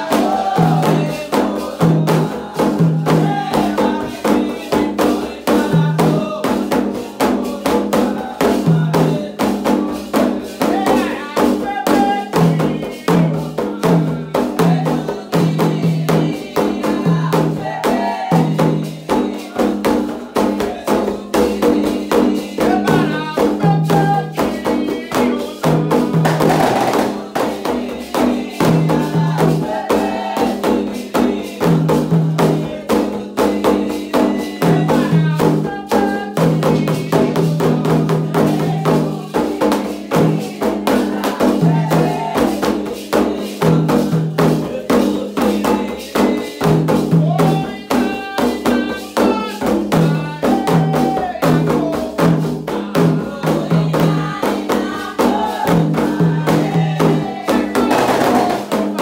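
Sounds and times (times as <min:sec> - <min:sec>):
hand drums playing: 0:00.0 - 0:59.0
voices singing: 0:00.0 - 0:59.0.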